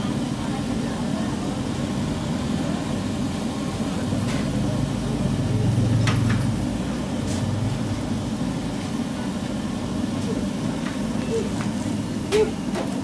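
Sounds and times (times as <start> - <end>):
batter frying in hot oil: 0.0 - 13.0.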